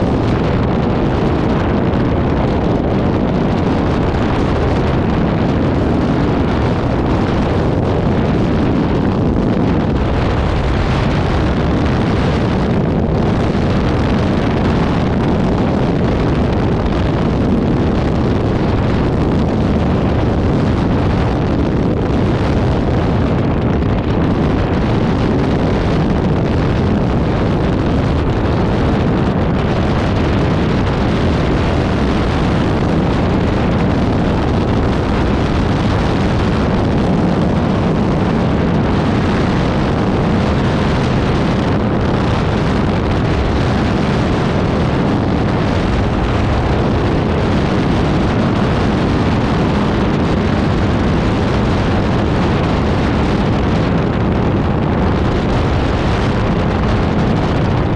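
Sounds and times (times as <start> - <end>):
two-stroke aircraft engine running: 0.0 - 57.9
wind rush on microphone: 0.0 - 57.9.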